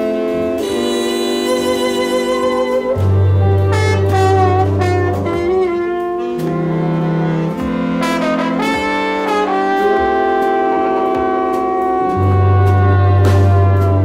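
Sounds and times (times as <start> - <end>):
jazz ensemble playing chords: 0.0 - 14.0.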